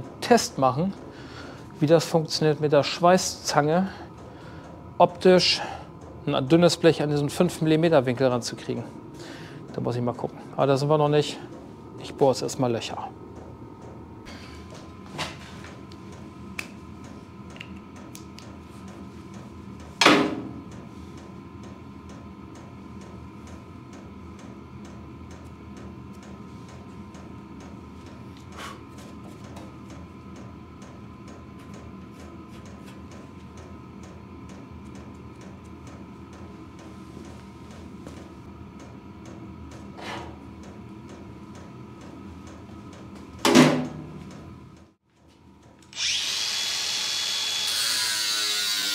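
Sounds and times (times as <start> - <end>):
workshop hum: 0.0 - 48.9.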